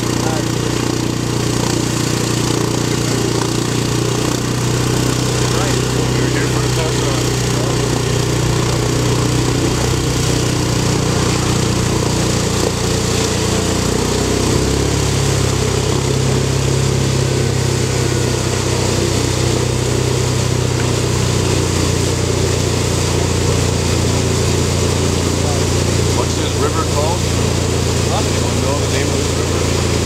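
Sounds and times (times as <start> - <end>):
quad engine running under load: 0.0 - 30.0
wheels churning water: 0.0 - 30.0.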